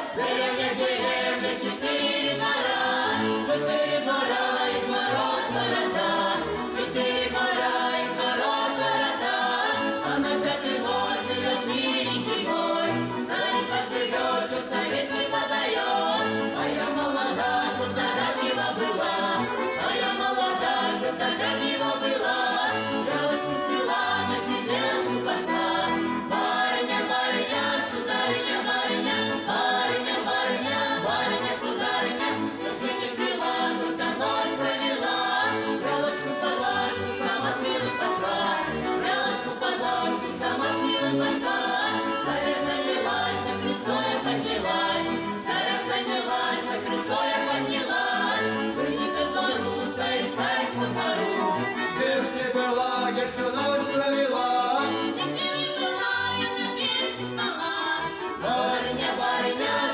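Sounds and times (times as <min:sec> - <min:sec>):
accordion: 0:00.0 - 0:59.9
folk vocal ensemble singing: 0:00.0 - 0:59.9.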